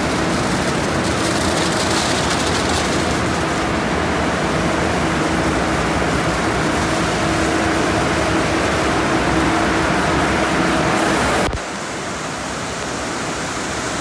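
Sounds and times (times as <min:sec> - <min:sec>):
water spray: 0:00.0 - 0:11.5.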